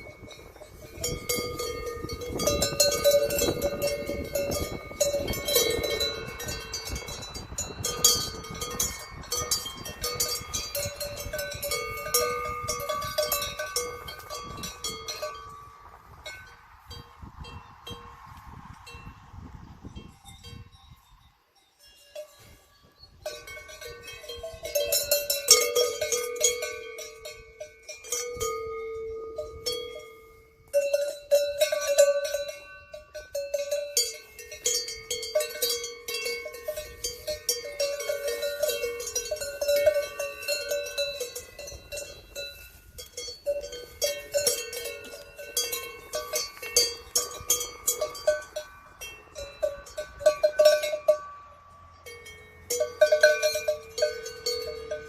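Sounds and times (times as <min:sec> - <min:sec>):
cowbells clanking: 0:00.0 - 0:18.2, 0:19.9 - 0:55.0.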